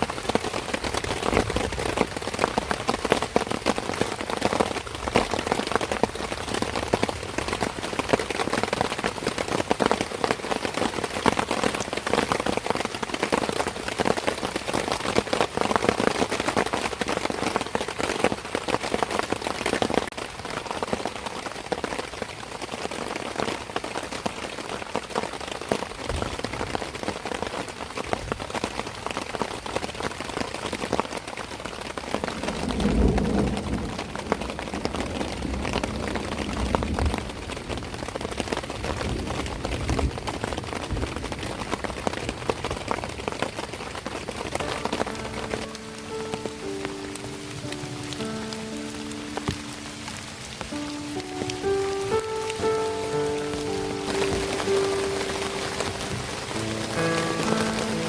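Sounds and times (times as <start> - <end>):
close raindrop hits: 0.0 - 58.0
steady rain falling: 0.0 - 58.0.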